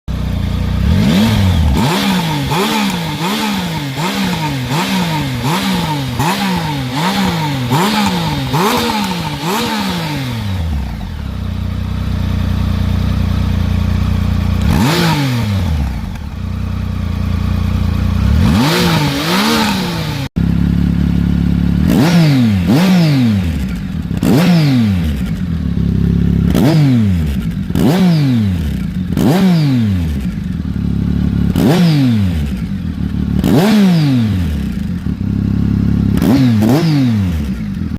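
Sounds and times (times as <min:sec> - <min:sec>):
motorcycle engine revving and idling: 0:00.1 - 0:37.9.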